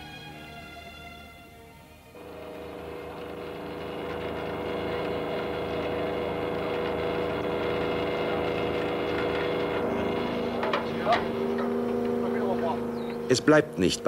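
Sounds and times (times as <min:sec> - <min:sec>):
winch motor humming: 0:01.9 - 0:14.0.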